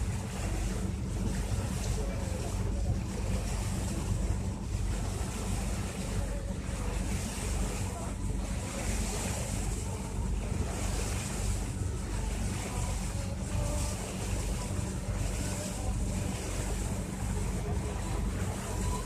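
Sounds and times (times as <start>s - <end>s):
boat engine drone: 0.0s - 19.0s
rushing sea water: 0.0s - 19.0s.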